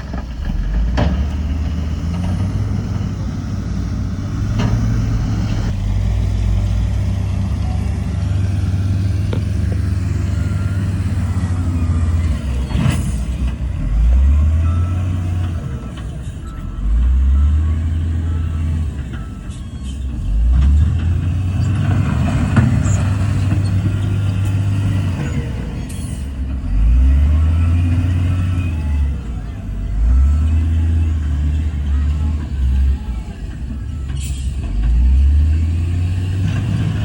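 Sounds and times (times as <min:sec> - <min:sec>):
engine revving up: 0:00.0 - 0:19.2, 0:20.1 - 0:33.0, 0:34.6 - 0:37.0
heavy diesel engines running: 0:00.0 - 0:37.0.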